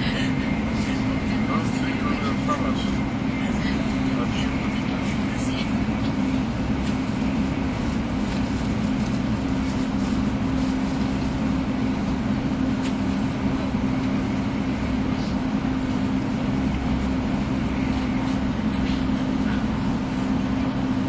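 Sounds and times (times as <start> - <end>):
train running noise from inside car: 0.0 - 21.0.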